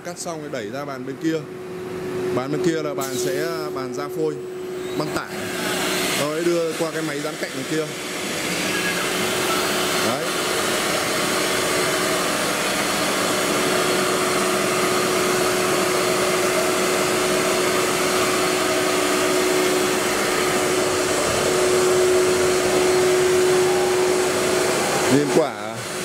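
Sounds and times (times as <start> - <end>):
steady hum: 0.0 - 26.0
router machine whirring: 3.0 - 26.0.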